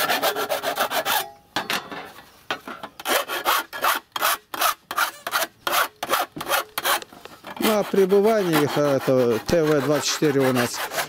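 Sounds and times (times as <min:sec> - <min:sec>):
hand tool scraping sheet edge: 0:00.0 - 0:01.3, 0:03.0 - 0:11.0.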